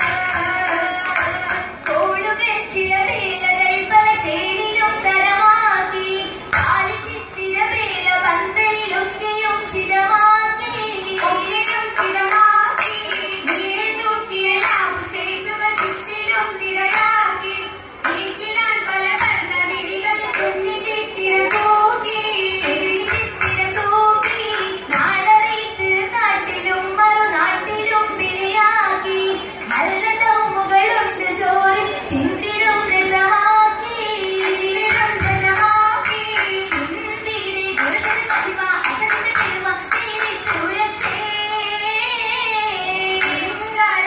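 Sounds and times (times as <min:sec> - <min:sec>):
girls singing: 0:00.0 - 0:44.0.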